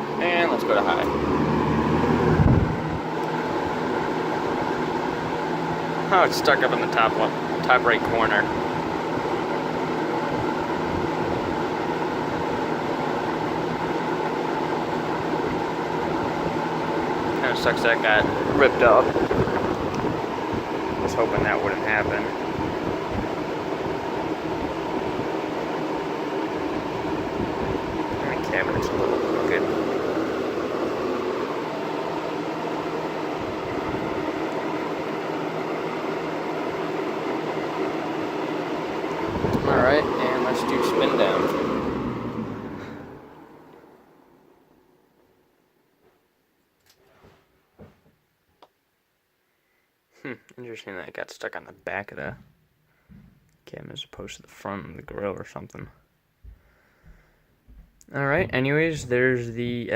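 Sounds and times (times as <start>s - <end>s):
box fan running: 0.0s - 48.0s, 54.2s - 59.9s.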